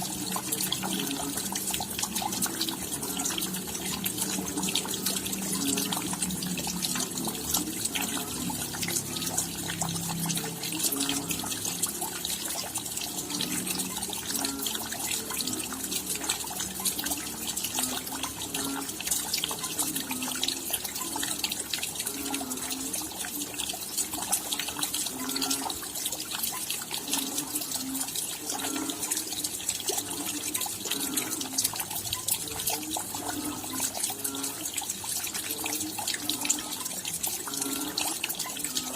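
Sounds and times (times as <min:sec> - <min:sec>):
hollow drips: 0:00.0 - 0:38.9
rain patter: 0:00.0 - 0:38.9.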